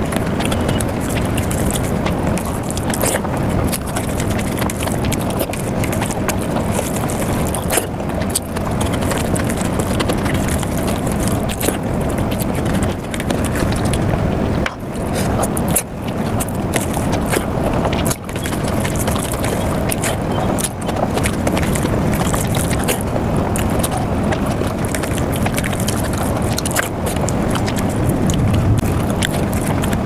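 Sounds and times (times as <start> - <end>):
wet chewing and smacking: 0.0 - 30.0.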